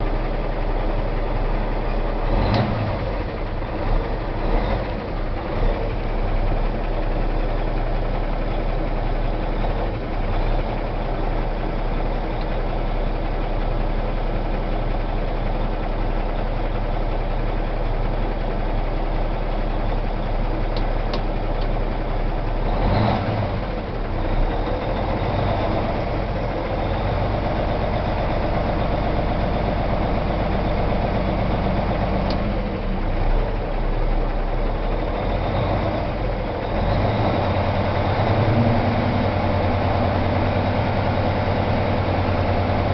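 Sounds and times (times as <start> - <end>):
diesel truck engine idling: 0.0 - 42.9.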